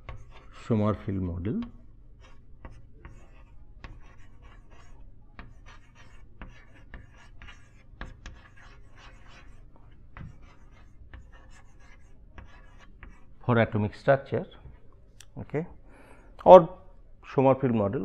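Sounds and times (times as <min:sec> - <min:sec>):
chalk scratching on chalkboard: 0:00.0 - 0:14.9.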